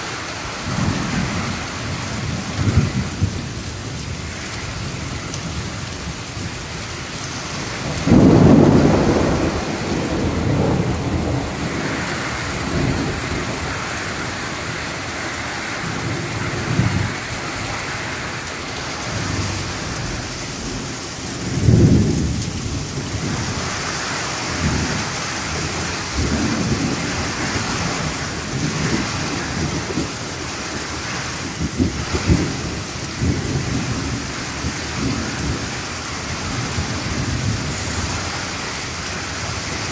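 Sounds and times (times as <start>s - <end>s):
rain falling on trees: 0.0s - 39.9s
thunder rumbling: 0.0s - 39.9s.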